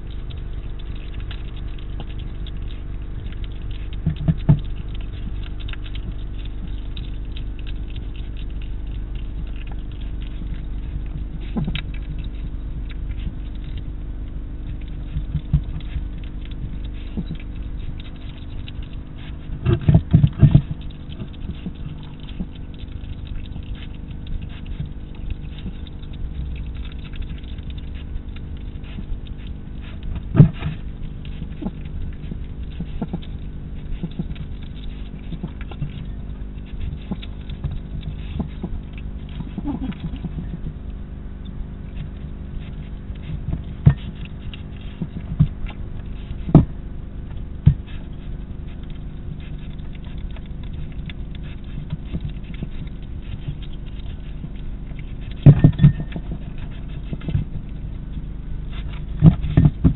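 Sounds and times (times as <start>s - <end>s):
hedgehog eating clicks and crunches: 0.0s - 59.9s
steady low hum: 0.0s - 59.9s.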